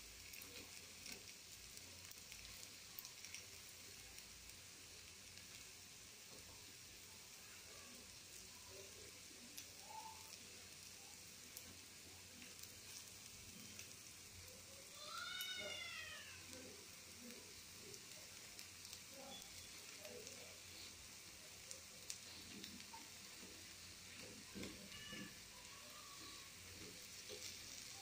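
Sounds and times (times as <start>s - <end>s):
batter sizzling in oil: 0.0s - 28.0s.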